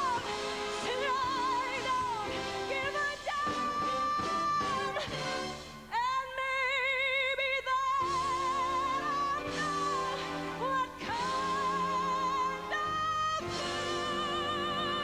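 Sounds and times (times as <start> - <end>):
woman singing a ballad: 0.0 - 15.0.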